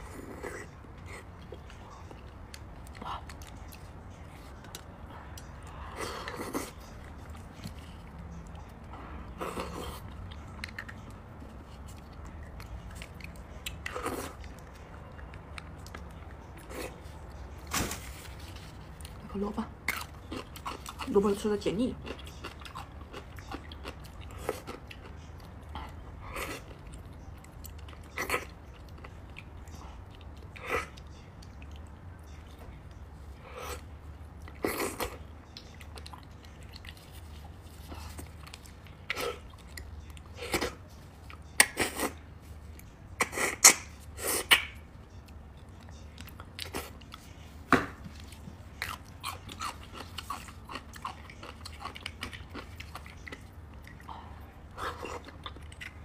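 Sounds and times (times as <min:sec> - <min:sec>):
chewing meat with wet smacks: 0:00.0 - 0:17.6, 0:19.8 - 0:21.1, 0:22.0 - 0:43.8, 0:44.5 - 0:56.0.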